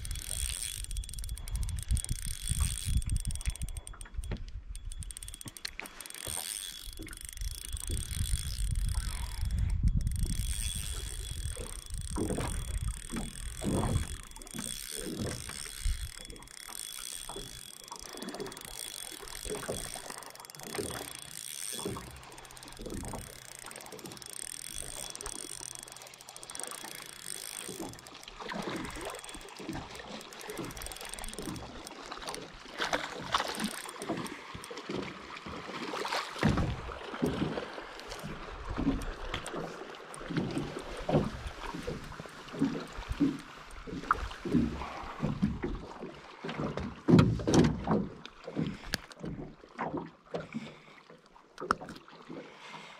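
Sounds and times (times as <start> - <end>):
water lapping against boat hull: 0.0 - 52.9.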